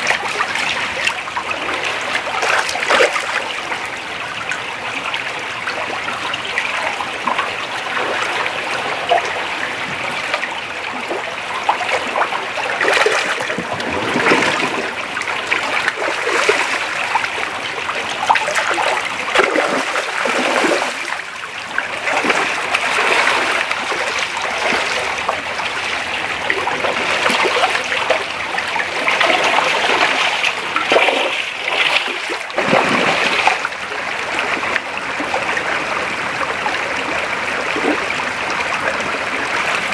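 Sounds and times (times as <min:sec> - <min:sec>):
creek water running over rocks: 0:00.0 - 0:39.9
water splashes: 0:00.0 - 0:39.9.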